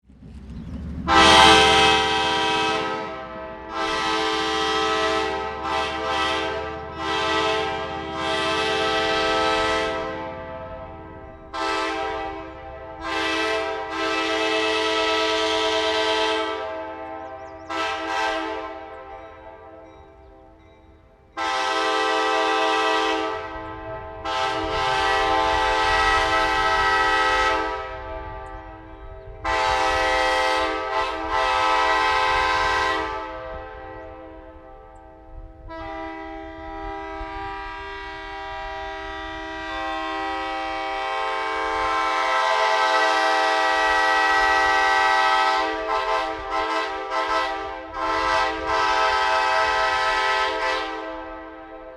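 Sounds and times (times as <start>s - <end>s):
horn echoes: 1.0s - 20.6s, 21.3s - 51.9s
locomotive air horn blasts: 1.0s - 20.6s, 21.3s - 51.9s.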